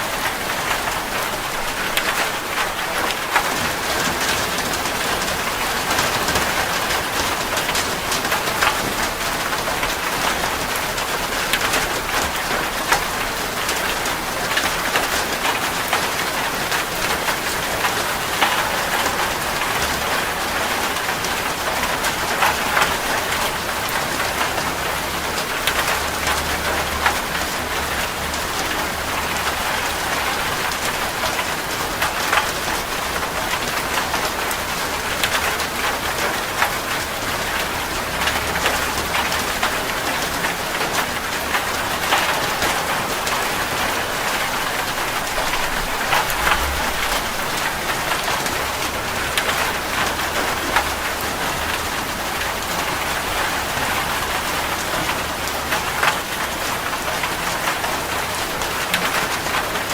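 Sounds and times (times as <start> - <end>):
raindrops ticking on a surface: 0.0 - 59.9
steady rain: 0.0 - 59.9.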